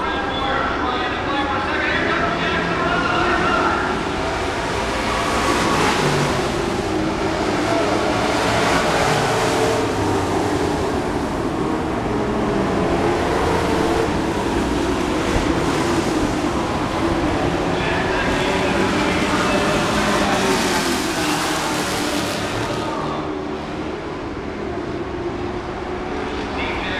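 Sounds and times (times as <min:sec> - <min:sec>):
racing truck engines droning: 0:00.0 - 0:26.9.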